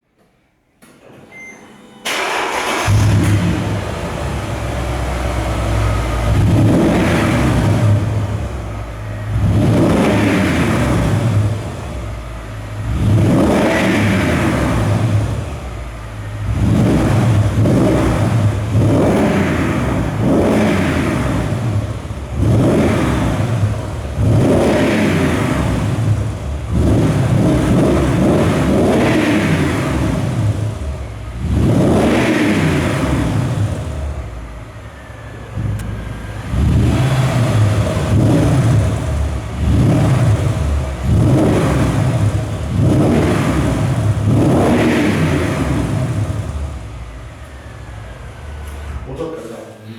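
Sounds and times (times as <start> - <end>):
engine revving in blips: 2.0 - 49.1
engine idling: 2.0 - 49.9.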